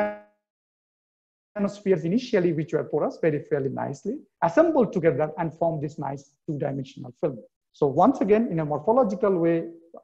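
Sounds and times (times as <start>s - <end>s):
man talking: 1.6s - 10.0s.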